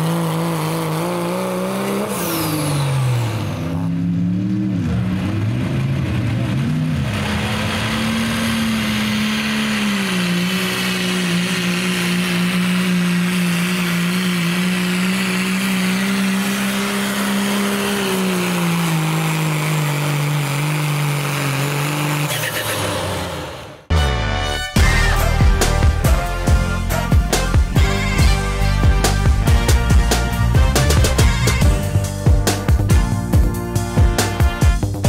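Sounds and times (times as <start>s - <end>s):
diesel engine heavy drone: 0.0s - 35.0s.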